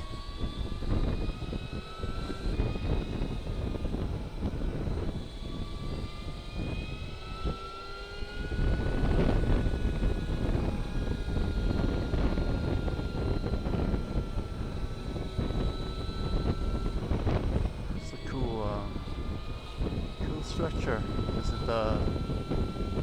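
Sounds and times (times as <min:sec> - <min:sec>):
electric motor whining: 0:00.0 - 0:23.0
heavy wind: 0:00.0 - 0:23.0.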